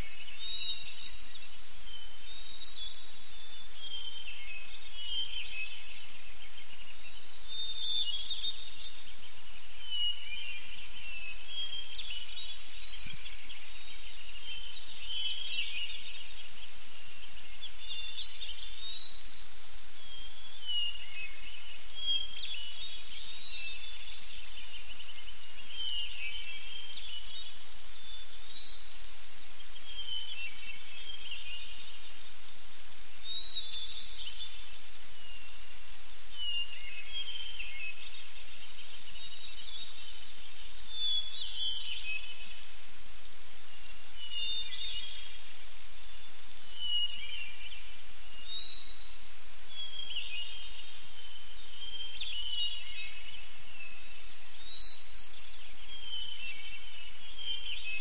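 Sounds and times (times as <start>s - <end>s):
songbirds singing and calling: 0.0s - 58.0s
steady high hiss: 0.0s - 58.0s.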